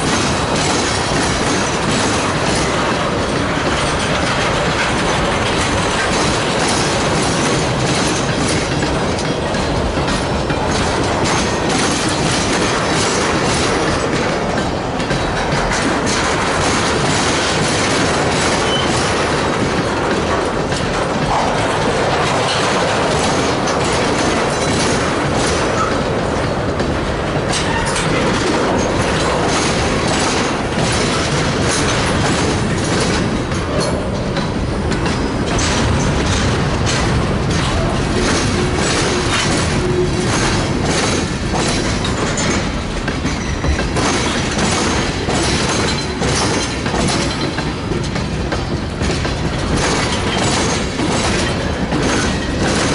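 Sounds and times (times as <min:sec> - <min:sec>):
train wheels clicking over rails: 0:00.0 - 0:52.9.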